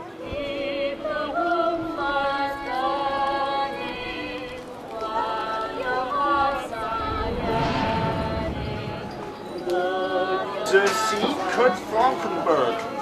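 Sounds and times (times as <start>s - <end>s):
girls singing together: 0.1s - 12.0s.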